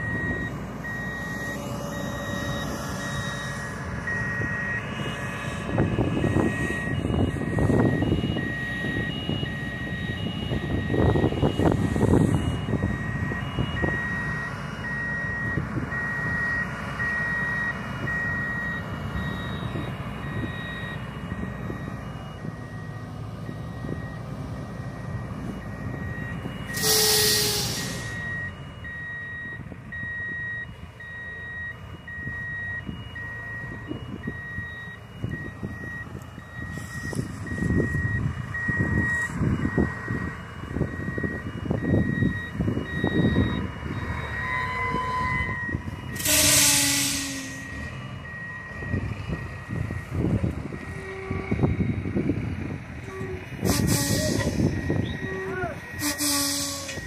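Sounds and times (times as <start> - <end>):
reverse alarm beeping: 0.0 - 52.3, 53.0 - 57.0
tractor diesel engine running: 0.0 - 57.0.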